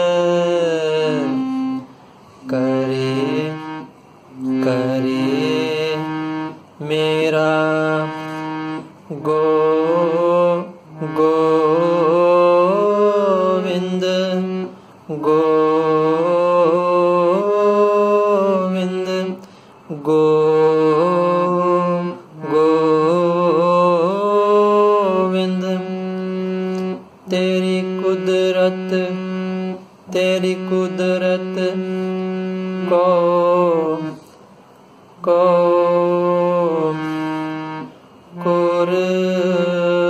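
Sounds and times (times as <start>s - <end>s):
harmonium playing: 0.0s - 34.3s, 35.3s - 40.0s.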